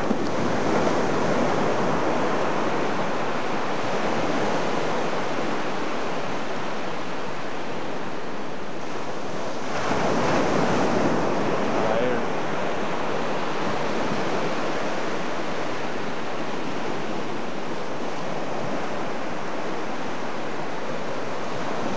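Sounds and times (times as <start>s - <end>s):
ocean surf washing up beach: 0.0s - 21.9s.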